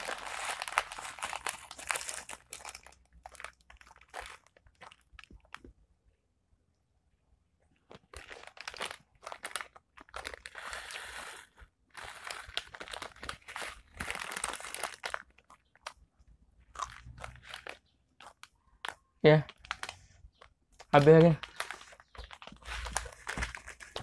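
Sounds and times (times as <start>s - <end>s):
crisp packet crinkling: 0.0s - 5.7s, 7.9s - 16.1s, 16.7s - 24.0s
crisps crunched and chewed: 0.0s - 5.7s, 7.8s - 24.0s.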